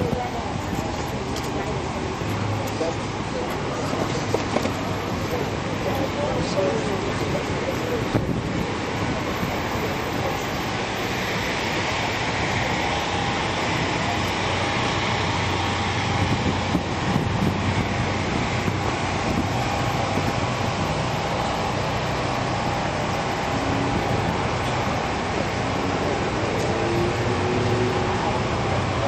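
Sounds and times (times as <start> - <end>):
passing road vehicles: 0.0 - 29.0.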